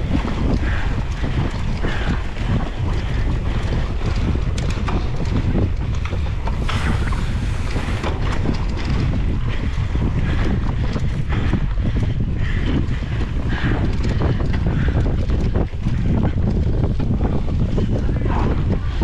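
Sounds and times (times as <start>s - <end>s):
bike clicks and knocks: 0.0s - 19.0s
wind buffeting microphone: 0.0s - 19.0s.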